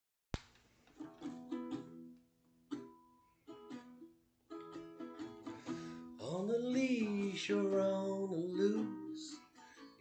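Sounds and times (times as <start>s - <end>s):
plucked string instrument: 1.0s - 10.0s.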